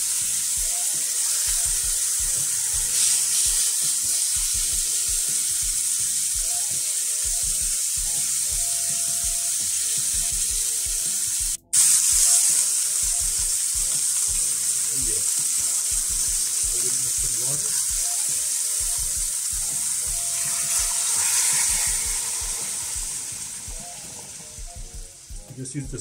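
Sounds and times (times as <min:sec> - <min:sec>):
meat sizzling in a pan: 0:00.0 - 0:26.0.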